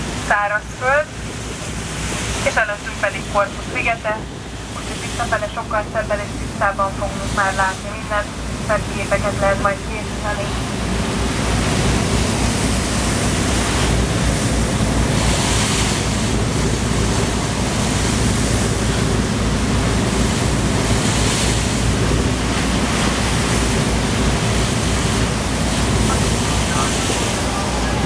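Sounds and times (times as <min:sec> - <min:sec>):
boat low rumble: 0:00.0 - 0:28.0
water rushing along hull: 0:00.0 - 0:28.0.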